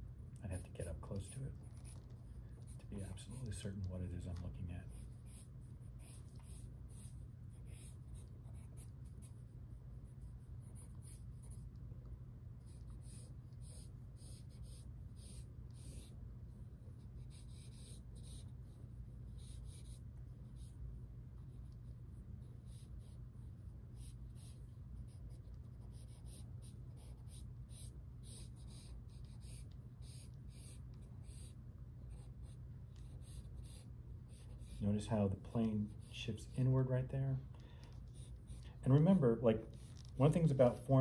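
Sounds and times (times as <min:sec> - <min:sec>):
steady low hum: 0:00.0 - 0:41.0
pencil scratching on paper: 0:00.5 - 0:11.8, 0:12.6 - 0:20.8, 0:21.4 - 0:37.0, 0:38.0 - 0:39.0.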